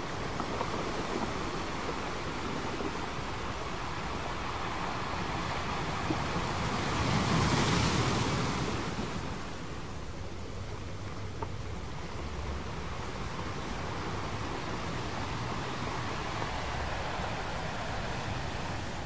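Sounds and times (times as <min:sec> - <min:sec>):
ocean waves washing in: 0:00.0 - 0:19.0.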